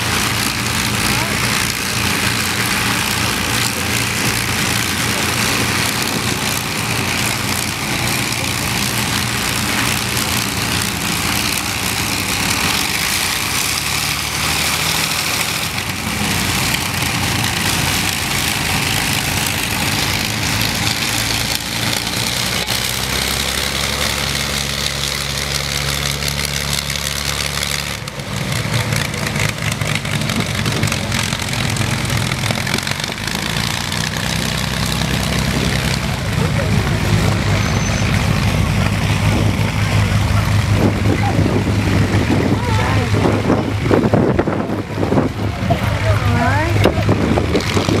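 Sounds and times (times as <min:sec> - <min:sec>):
piston aircraft engines running: 0:00.0 - 0:48.0
propeller wash hissing: 0:00.0 - 0:48.0.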